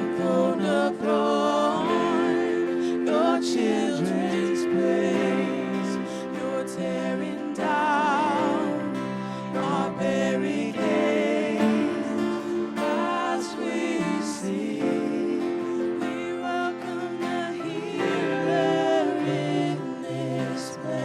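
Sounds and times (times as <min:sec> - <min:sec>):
worship singing over a band: 0:00.0 - 0:21.0.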